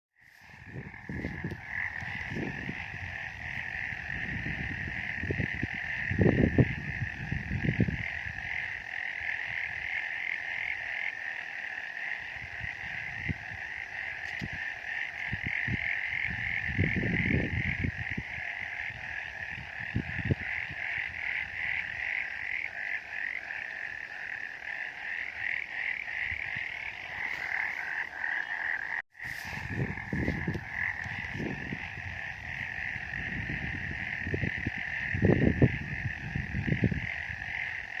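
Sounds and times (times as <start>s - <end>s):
chorus of frogs trilling: 0.2s - 38.0s.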